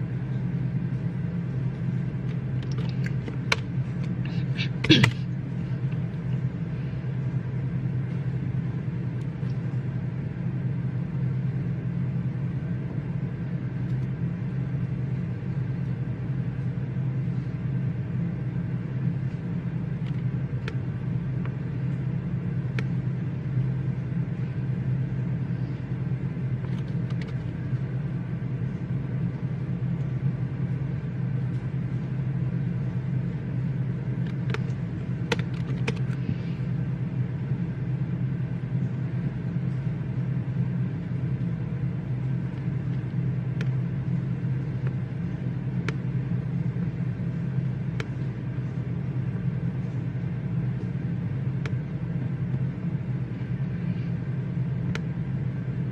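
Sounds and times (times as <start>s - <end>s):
low room hum: 0.0s - 55.9s.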